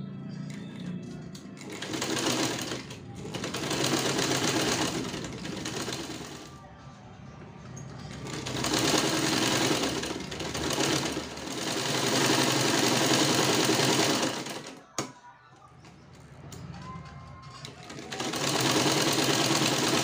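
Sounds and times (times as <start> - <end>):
sewing machine stitching: 0.7 - 6.5, 8.1 - 15.1, 16.5 - 20.0.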